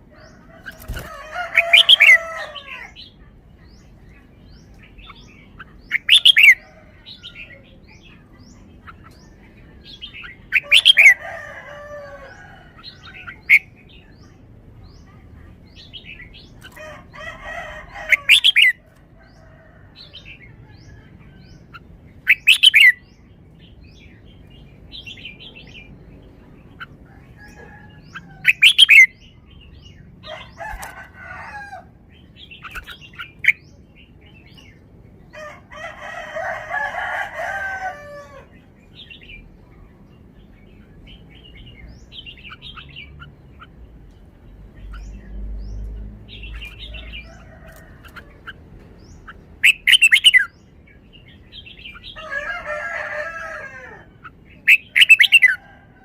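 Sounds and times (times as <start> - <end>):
bird singing warbling phrases: 0.0 - 19.4, 20.0 - 35.4, 38.1 - 55.8.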